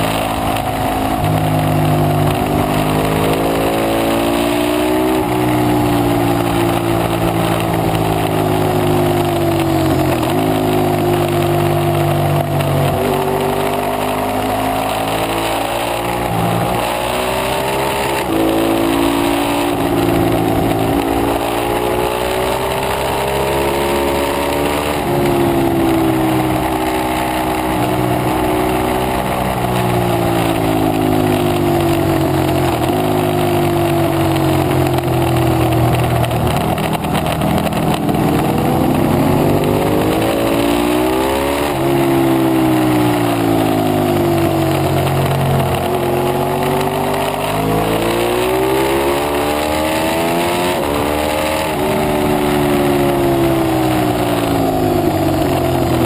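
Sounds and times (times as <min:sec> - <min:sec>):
motorcycle engine at racing speed: 0:00.0 - 0:56.0.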